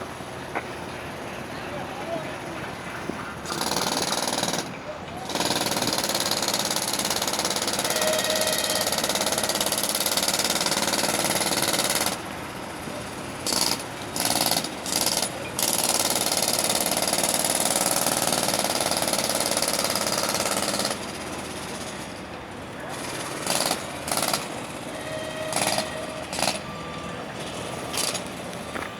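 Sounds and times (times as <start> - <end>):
jackhammer hammering: 3.4 - 22.0, 22.9 - 26.7, 27.4 - 28.4.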